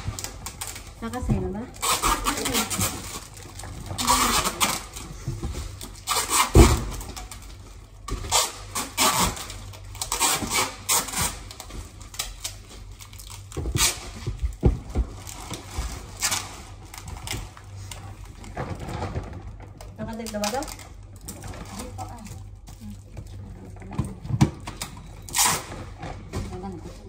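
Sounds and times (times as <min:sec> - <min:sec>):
packaging rustling: 0:00.0 - 0:26.9.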